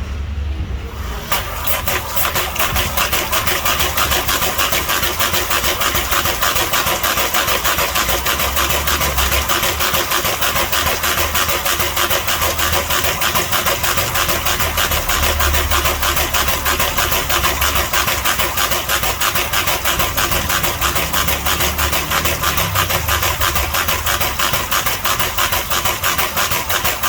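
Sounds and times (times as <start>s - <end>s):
diaphragm pump air-exhaust pulses: 0.0s - 27.0s.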